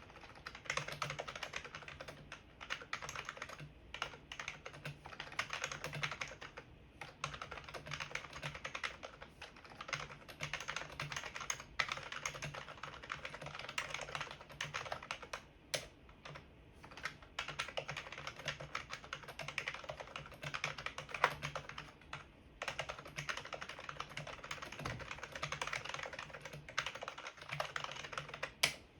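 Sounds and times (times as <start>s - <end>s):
keyboard typing clicks: 0.1s - 28.8s.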